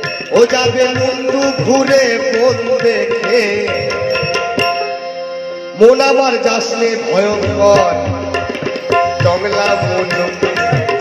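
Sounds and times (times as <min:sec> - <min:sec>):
harmonium: 0:00.0 - 0:11.0.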